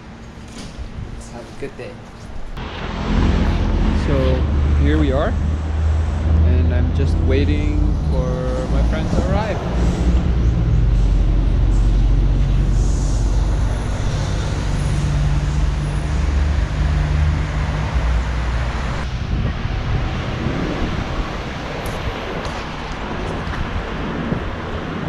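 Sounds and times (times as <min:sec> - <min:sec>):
road noise: 0:00.0 - 0:25.0
large vehicle engine humming: 0:02.6 - 0:25.0.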